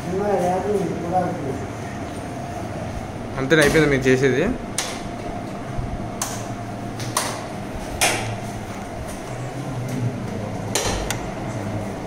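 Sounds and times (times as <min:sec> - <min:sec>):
film projector humming: 0:00.0 - 0:12.0.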